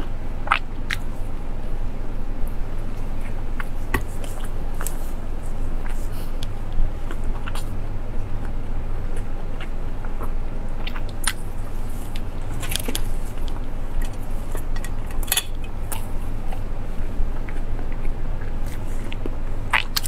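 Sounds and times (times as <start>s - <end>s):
close chewing with mouth clicks: 0.0s - 1.4s, 2.4s - 20.0s
steady low hum: 0.0s - 20.0s.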